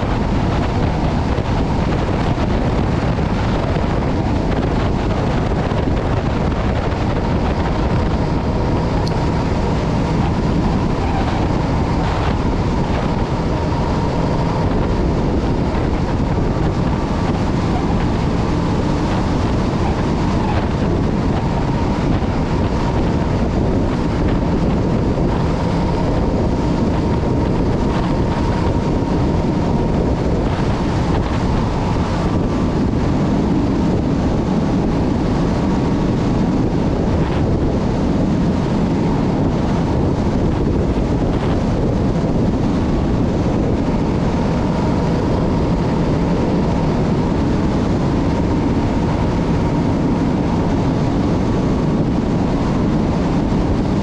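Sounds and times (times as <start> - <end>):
truck diesel engine running: 0.0 - 54.0
tyre and wind noise: 0.0 - 54.0.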